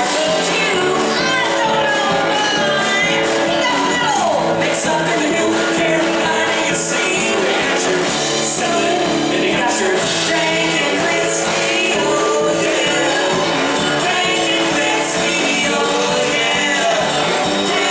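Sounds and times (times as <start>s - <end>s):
live country-rock band: 0.0s - 17.9s
strummed acoustic guitar: 0.0s - 17.9s
woman singing: 0.0s - 17.9s.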